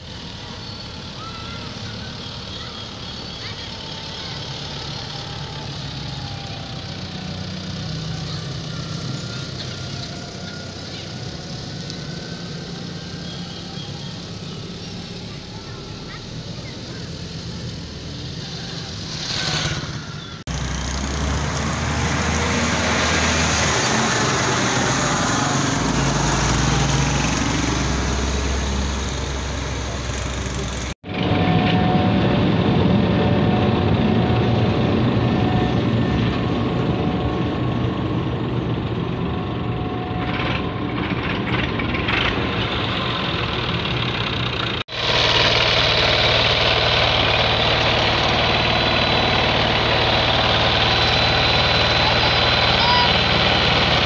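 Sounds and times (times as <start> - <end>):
motor grader engine running: 0.0 - 54.0
motorcycles: 0.0 - 54.0
road roller diesel engine: 0.0 - 54.0.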